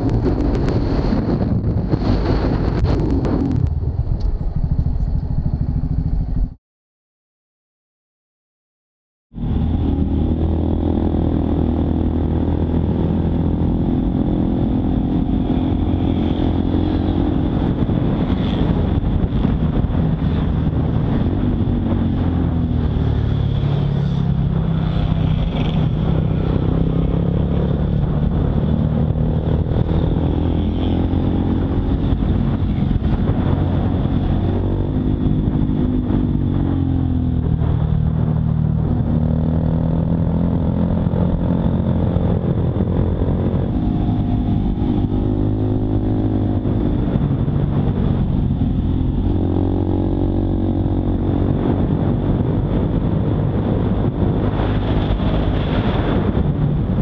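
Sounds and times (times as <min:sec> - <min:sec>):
motorcycle engine running: 0:00.0 - 0:06.6, 0:09.4 - 0:57.0.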